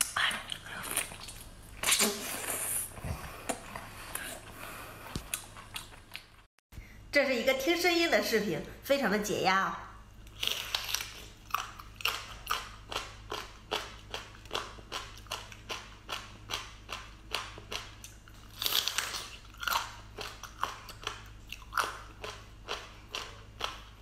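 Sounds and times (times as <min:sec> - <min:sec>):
chewing with mouth clicks: 0:00.0 - 0:06.5, 0:10.2 - 0:24.0.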